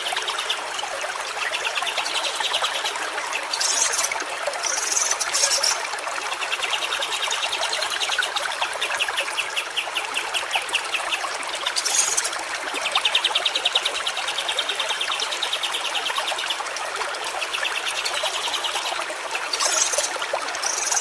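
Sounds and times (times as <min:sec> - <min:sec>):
water trickling over stones: 0:00.0 - 0:21.0.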